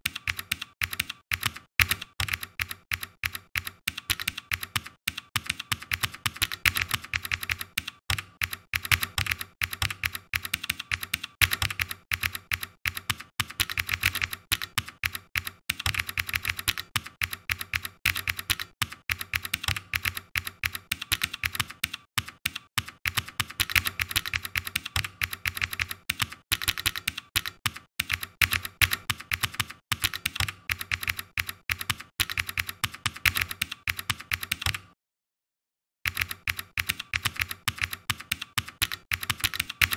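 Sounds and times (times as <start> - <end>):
typing on computer keyboard: 0.0 - 35.0, 36.1 - 39.9.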